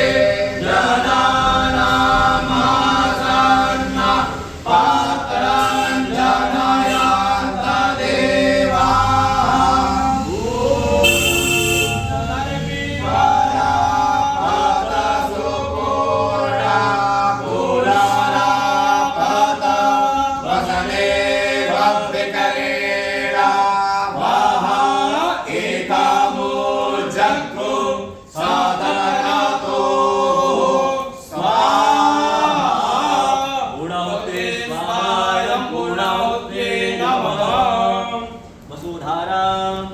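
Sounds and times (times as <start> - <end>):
person chanting mantras: 0.0 - 39.9.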